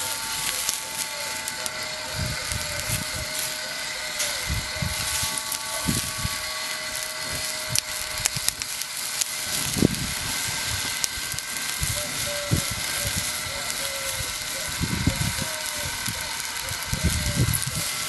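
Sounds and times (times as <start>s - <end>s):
glaze sizzling on hot charcoal: 0.0s - 18.0s
rotisserie motor whine: 0.0s - 18.0s
sharp crackles: 0.0s - 18.0s.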